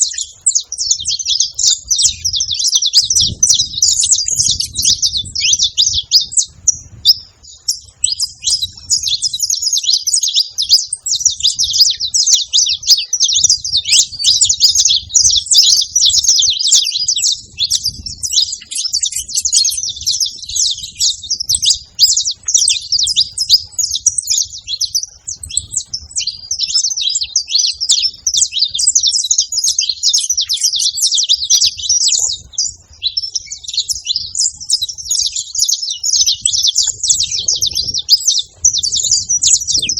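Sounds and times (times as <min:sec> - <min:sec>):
finch singing high chirps: 0:00.0 - 0:39.9.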